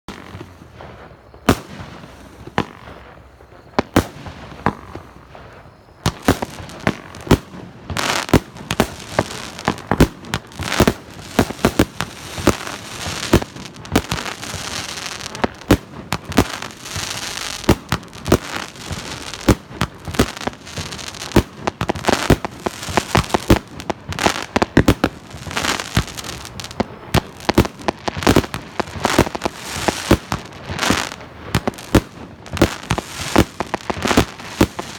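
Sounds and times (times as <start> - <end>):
fireworks crackling: 0.1 - 34.9
fireworks launching and bursting: 0.1 - 34.9.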